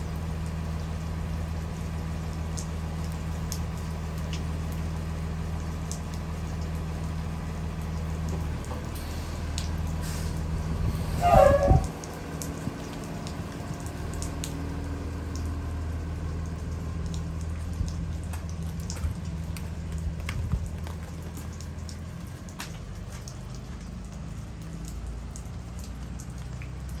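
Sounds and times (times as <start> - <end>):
bus engine hum: 0.0 - 27.0
steady rain falling: 0.0 - 27.0
water drips ticking: 0.0 - 27.0.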